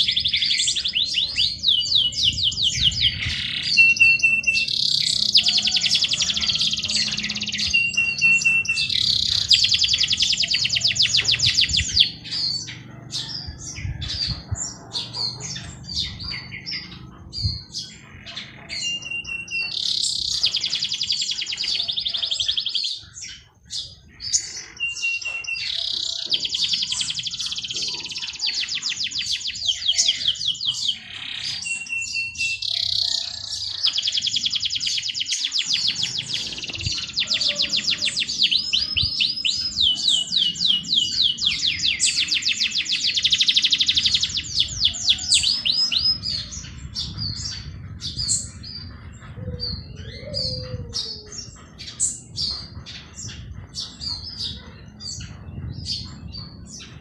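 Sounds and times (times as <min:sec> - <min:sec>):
songbirds trilling: 0:00.0 - 0:57.0.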